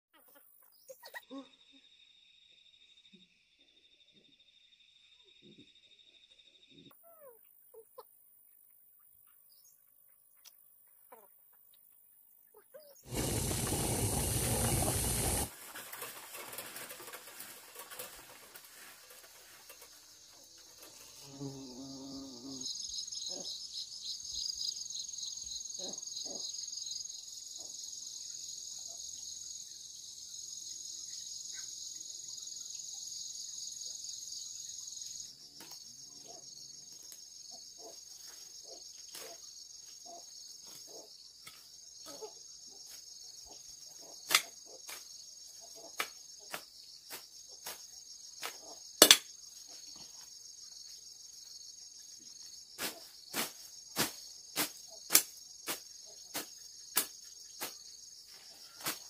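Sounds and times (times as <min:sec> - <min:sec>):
insects chirring: 0:00.2 - 0:59.0.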